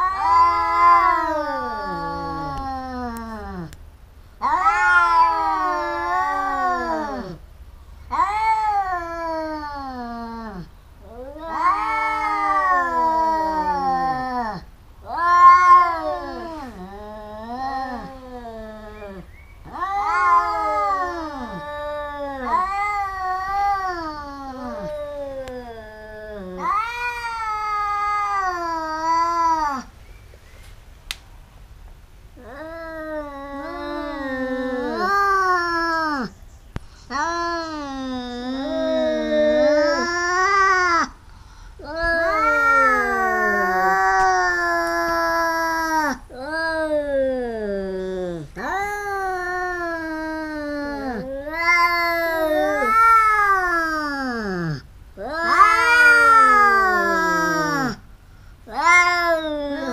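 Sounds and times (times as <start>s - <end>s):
cats yowling: 0.0s - 3.8s, 4.4s - 7.4s, 8.1s - 29.9s, 32.4s - 36.3s, 37.1s - 41.1s, 41.8s - 59.9s.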